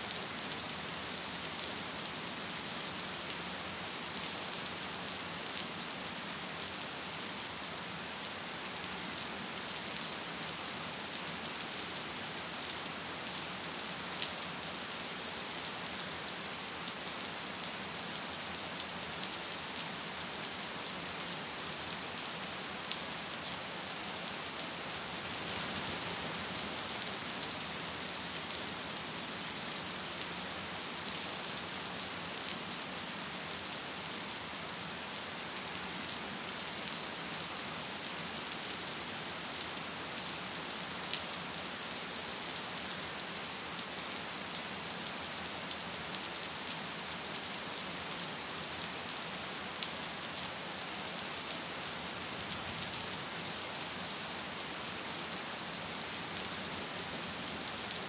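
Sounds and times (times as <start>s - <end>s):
gentle rain falling: 0.0s - 58.0s.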